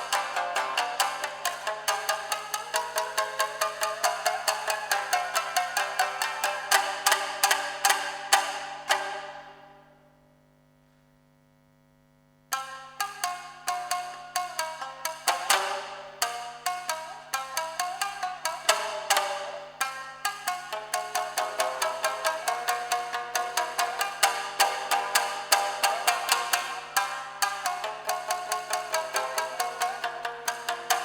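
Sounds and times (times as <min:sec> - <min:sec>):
shamisen ensemble playing: 0:00.0 - 0:09.8, 0:12.5 - 0:31.0.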